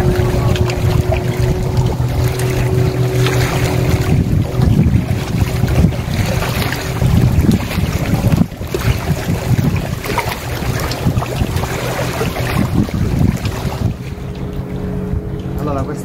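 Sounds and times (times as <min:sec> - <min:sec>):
low engine-like hum: 0:00.0 - 0:16.0
wind buffeting microphone: 0:00.0 - 0:16.0.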